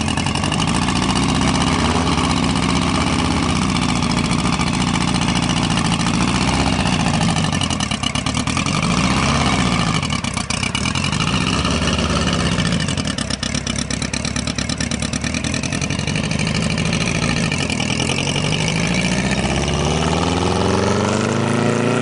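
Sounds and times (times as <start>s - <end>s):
car engine accelerating away: 0.0s - 13.2s, 14.8s - 22.0s.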